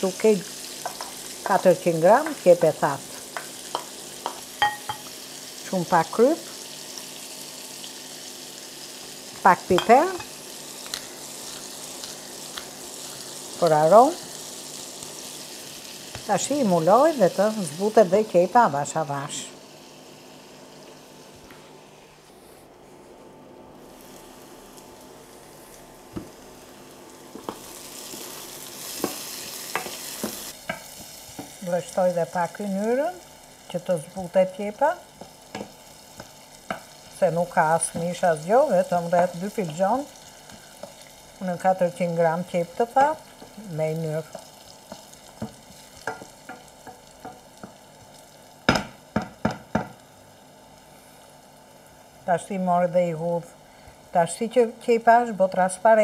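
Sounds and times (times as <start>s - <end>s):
onions sizzling in oil: 0.0s - 22.2s, 23.7s - 56.0s.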